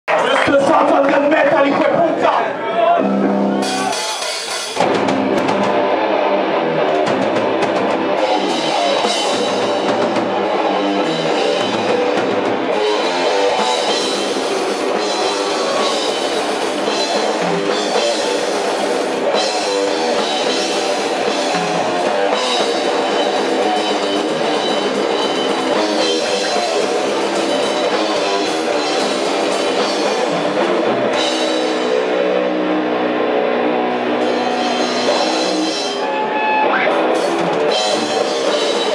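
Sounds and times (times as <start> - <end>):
loud rock music: 0.1 - 38.9.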